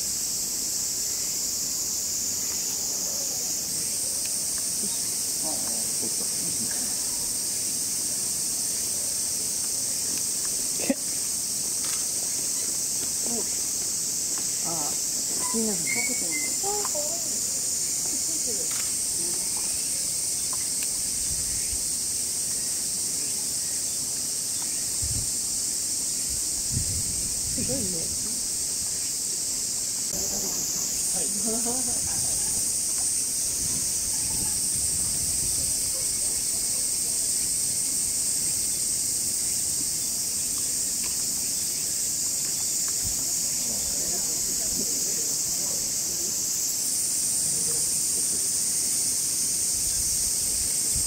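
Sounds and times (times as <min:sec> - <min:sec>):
cicadas singing: 0:00.0 - 0:51.0
insects calling in chorus: 0:00.0 - 0:51.0.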